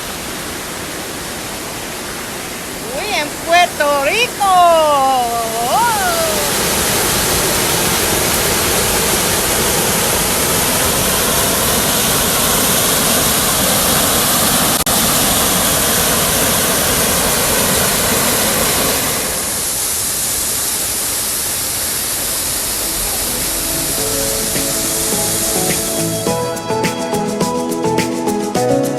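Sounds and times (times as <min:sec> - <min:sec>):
waterfall roaring: 0:00.0 - 0:26.3.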